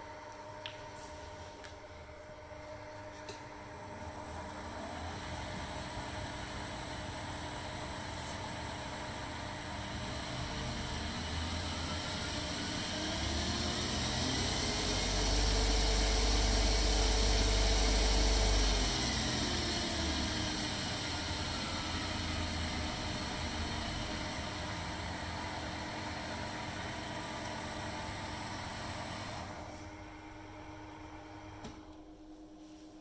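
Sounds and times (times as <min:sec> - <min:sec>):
mixer motor hum and whine: 0:00.0 - 0:32.3.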